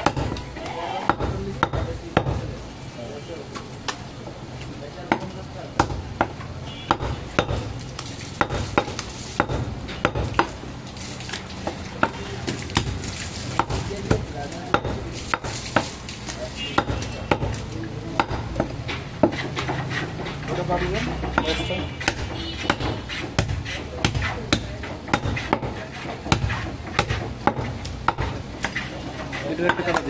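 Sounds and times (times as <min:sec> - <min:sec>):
knife chopping meat on block: 0:00.0 - 0:02.5, 0:05.1 - 0:10.7, 0:11.6 - 0:13.0, 0:13.6 - 0:16.0, 0:16.7 - 0:20.4, 0:21.0 - 0:30.0.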